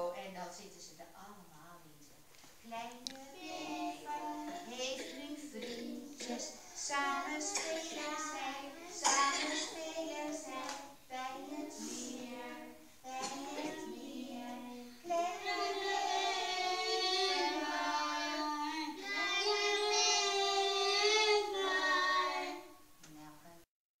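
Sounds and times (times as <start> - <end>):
children singing: 3.1 - 22.8.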